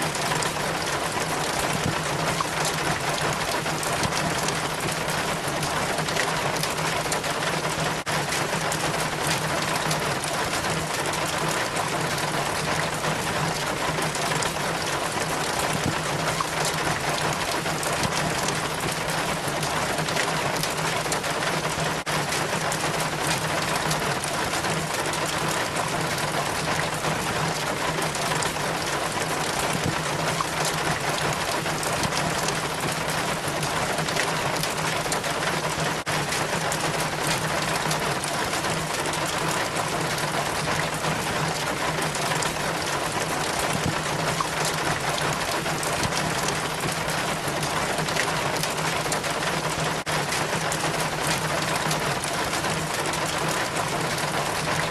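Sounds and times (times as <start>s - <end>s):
rain pattering: 0.0s - 54.9s
water trickling down rain chain: 0.0s - 54.9s.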